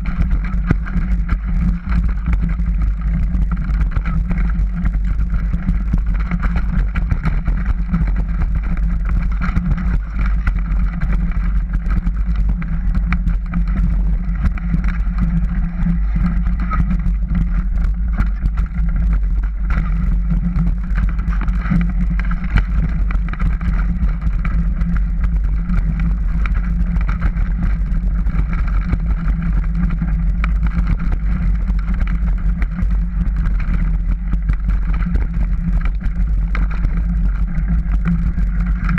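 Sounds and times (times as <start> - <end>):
bike rattling and clicking: 0.0 - 38.9
wind and tyre rumble: 0.0 - 38.9.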